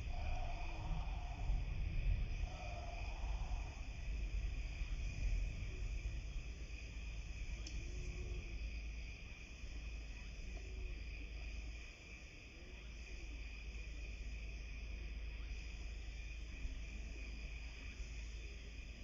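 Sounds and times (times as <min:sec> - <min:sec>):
insect chorus trilling: 0:00.0 - 0:19.0
low rumble of wind: 0:00.0 - 0:19.0.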